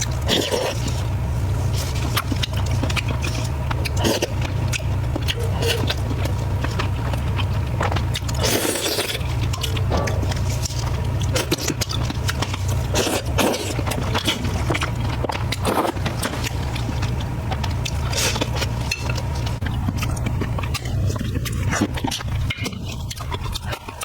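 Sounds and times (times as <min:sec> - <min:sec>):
close chewing with clicks: 0:00.0 - 0:24.0
crunching bursts: 0:00.0 - 0:24.0
steady low hum: 0:00.0 - 0:24.0.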